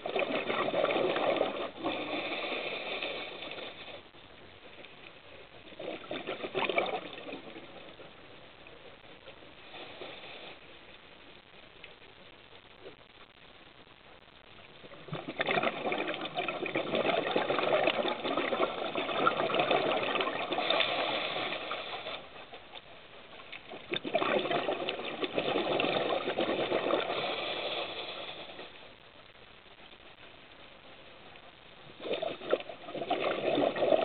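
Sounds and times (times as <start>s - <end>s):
regulator bubbles underwater: 0.0s - 13.2s, 14.4s - 29.0s, 31.5s - 34.0s.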